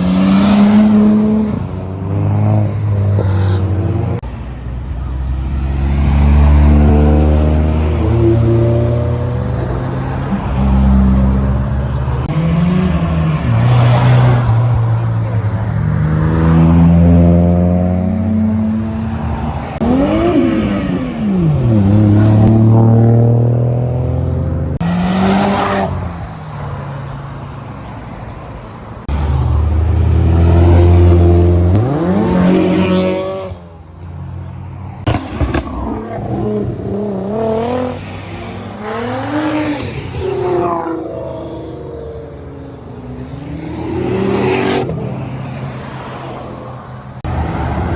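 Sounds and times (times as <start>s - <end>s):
cars revving and driving past: 0.0s - 47.9s.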